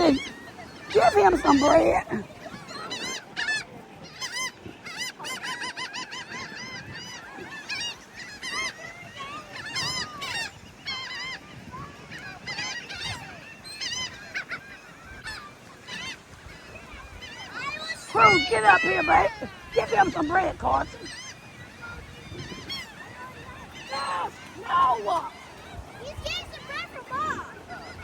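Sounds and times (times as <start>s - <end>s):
seagulls calling: 0.0s - 28.0s.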